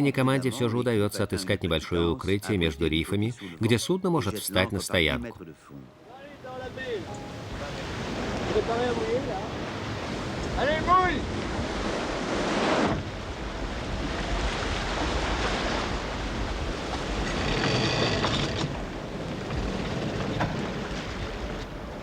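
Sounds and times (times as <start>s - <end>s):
sea waves: 0.0s - 22.0s
wind: 0.0s - 22.0s.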